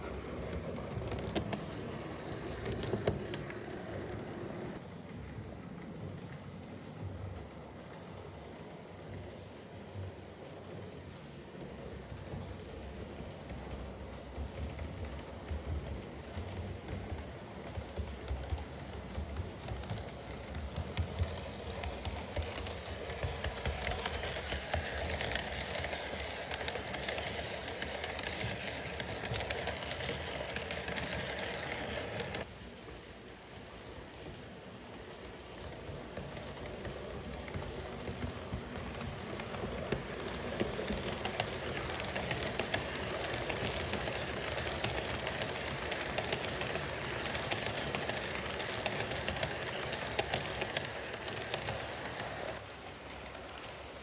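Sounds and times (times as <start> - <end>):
model trains rolling on track: 0.0 - 54.0
wheels clicking on track: 0.0 - 54.0.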